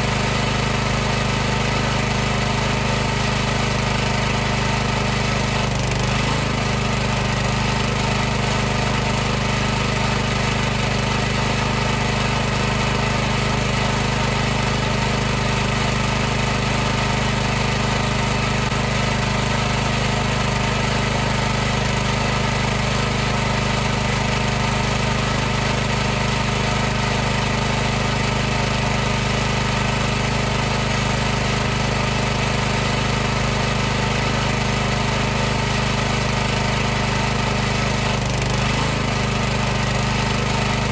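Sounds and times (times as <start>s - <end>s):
pressure washer running: 0.0s - 40.9s.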